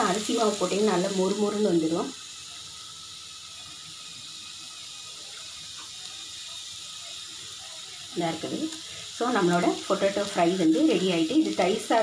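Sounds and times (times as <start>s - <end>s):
potato slices sizzling in oil: 0.0s - 12.0s.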